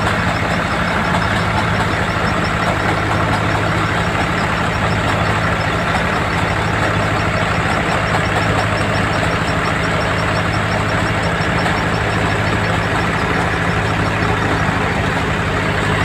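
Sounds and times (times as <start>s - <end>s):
fast high ticking: 0.0s - 16.0s
harvester diesel engine drone: 0.0s - 16.0s
mechanical clatter: 0.0s - 16.0s.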